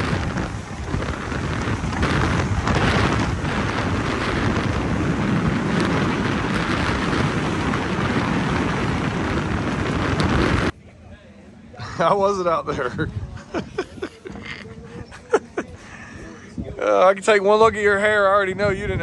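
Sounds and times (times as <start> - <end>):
wind buffeting microphone: 0.0 - 10.8, 12.2 - 19.0.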